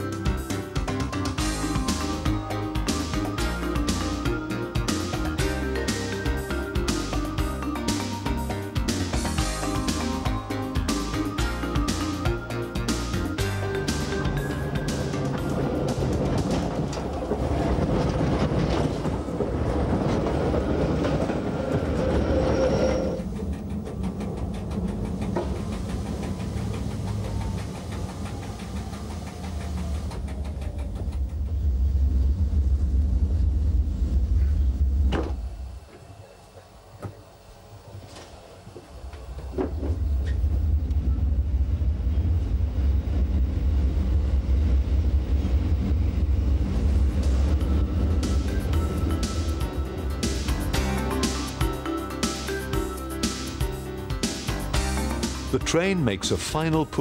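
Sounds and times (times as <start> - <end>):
electric train rushing past: 0.0 - 57.0
train rumble on track: 0.0 - 57.0.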